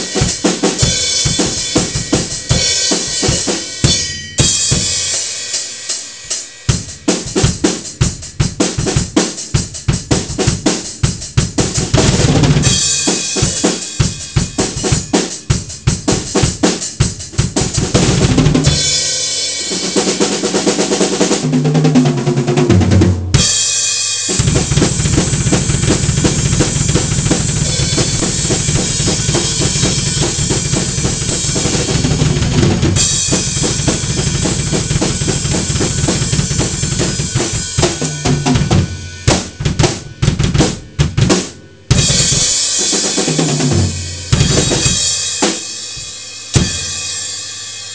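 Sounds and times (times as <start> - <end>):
drum kit playing: 0.0 - 47.9.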